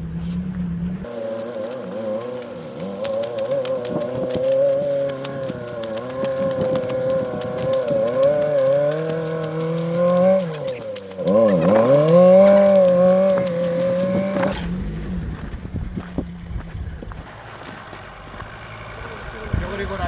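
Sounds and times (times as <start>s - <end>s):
drivetrain whining under load: 0.6s - 17.2s.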